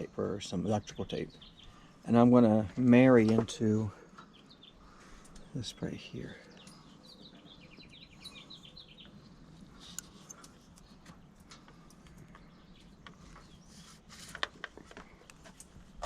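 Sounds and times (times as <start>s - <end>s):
bird chirping: 0.0s - 14.1s.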